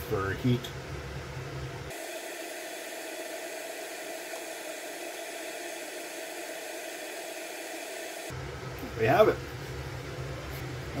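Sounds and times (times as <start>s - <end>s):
fume extractor fan hiss: 0.0s - 11.0s.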